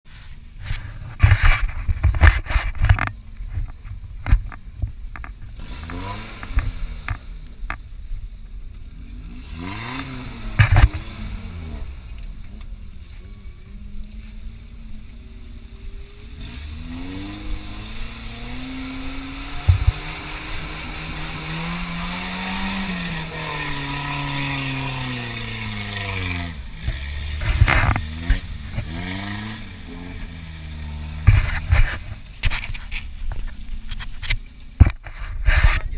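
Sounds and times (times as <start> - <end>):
off-road vehicle engine revving: 0.6 - 35.9.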